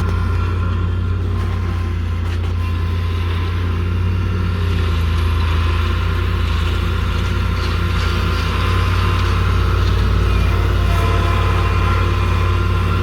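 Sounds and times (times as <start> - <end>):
heavy equipment engine humming: 0.0 - 13.0.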